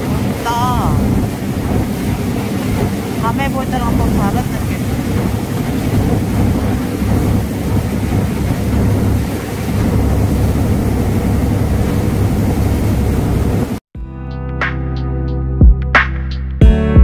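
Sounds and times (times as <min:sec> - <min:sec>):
boat engine running: 0:00.0 - 0:13.8
water rushing: 0:00.0 - 0:13.8
wind on microphone: 0:00.0 - 0:13.8.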